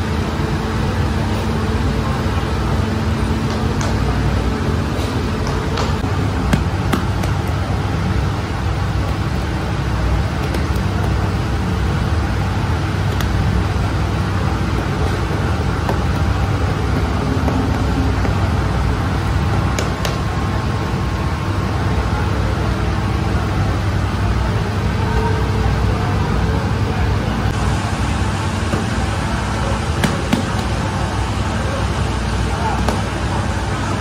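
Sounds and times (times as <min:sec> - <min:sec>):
machinery running: 0:00.0 - 0:34.0.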